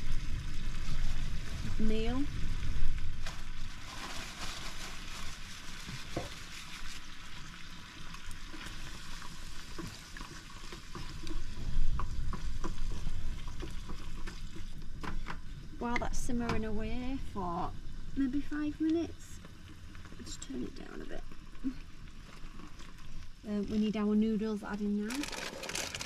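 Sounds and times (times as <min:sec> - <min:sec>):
curry sizzling and bubbling: 0:00.0 - 0:26.0.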